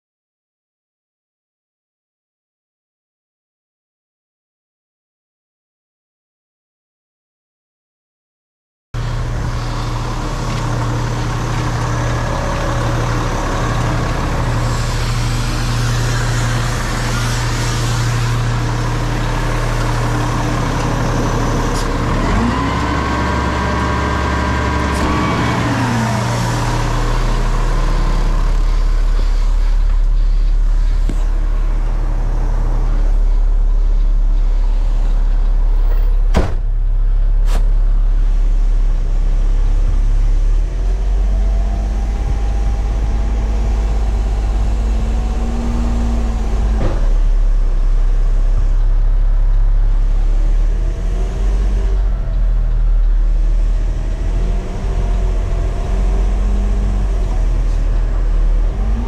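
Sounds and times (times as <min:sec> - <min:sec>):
diesel truck engine running: 0:09.0 - 0:59.0.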